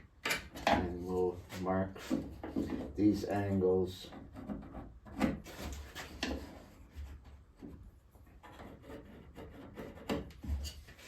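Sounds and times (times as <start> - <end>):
wood rubbing and scraping: 0.2 - 11.0.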